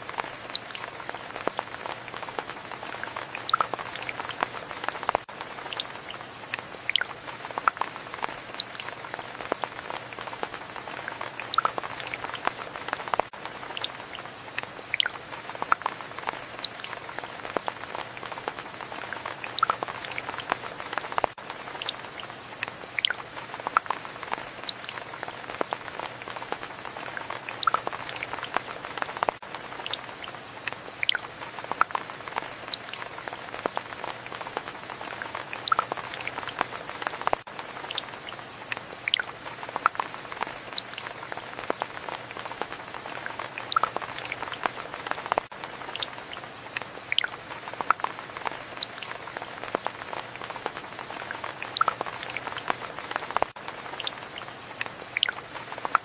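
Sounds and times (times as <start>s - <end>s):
rain hissing: 0.0s - 56.0s
raindrops tapping on surface: 0.0s - 56.0s.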